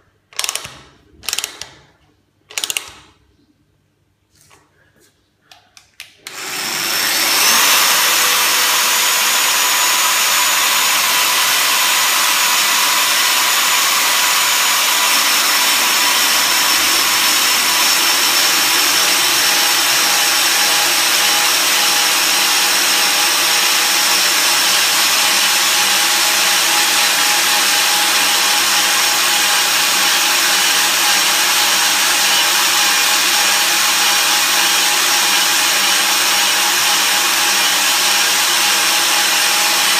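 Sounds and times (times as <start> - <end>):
milling machine whining: 6.2 - 39.9.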